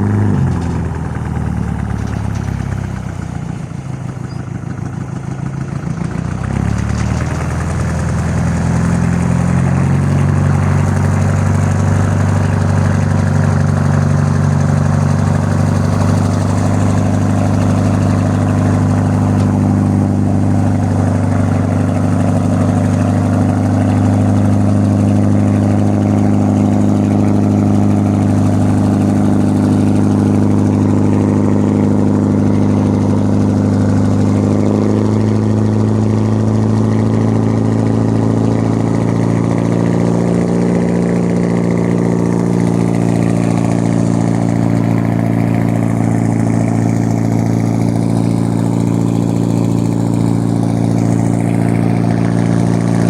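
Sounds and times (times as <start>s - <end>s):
engine humming: 0.0s - 53.0s.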